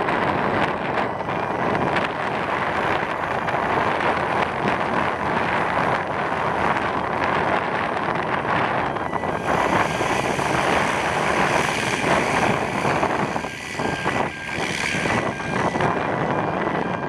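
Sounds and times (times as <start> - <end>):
propeller aircraft engine running: 0.0 - 17.0.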